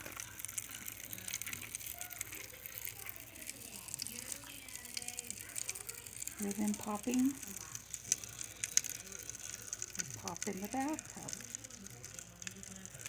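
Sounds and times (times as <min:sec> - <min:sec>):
bath crackles popping: 0:00.0 - 0:13.0.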